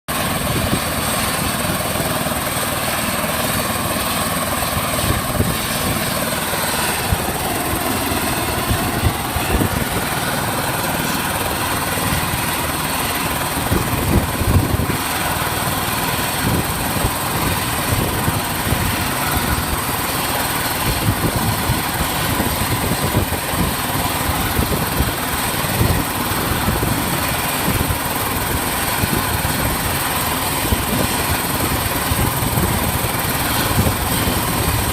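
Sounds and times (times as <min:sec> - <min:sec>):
helicopter engine roar: 0:00.1 - 0:34.9
helicopter rotor blades beating: 0:00.1 - 0:34.9
high whine: 0:00.1 - 0:34.9.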